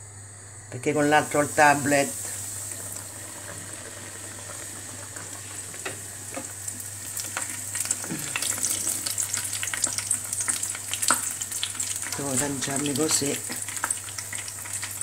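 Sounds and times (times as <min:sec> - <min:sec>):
dough sizzling in hot oil: 0:00.8 - 0:15.0.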